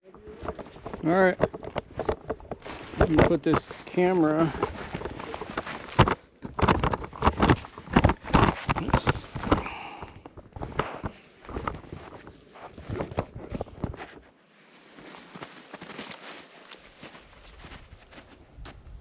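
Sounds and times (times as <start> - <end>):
footsteps: 0.0 - 19.0.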